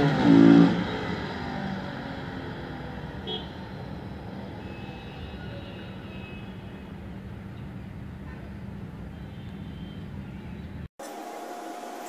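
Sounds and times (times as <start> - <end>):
vehicle engine droning: 0.0 - 10.9.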